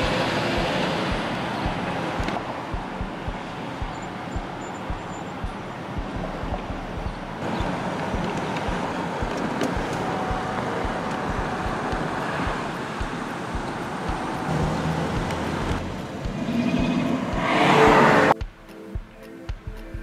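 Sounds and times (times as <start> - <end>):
vehicles driving past: 0.0 - 18.4
wind thumping on microphone: 0.0 - 18.4.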